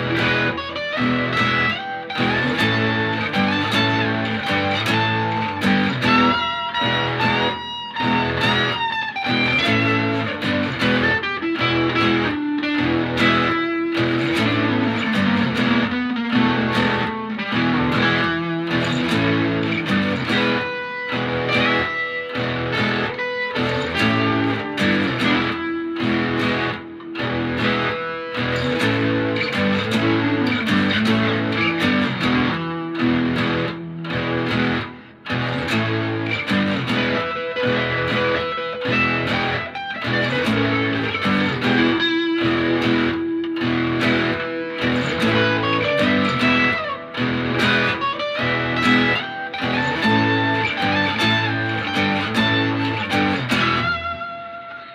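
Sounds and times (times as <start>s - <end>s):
strummed guitar music: 0.0s - 54.9s.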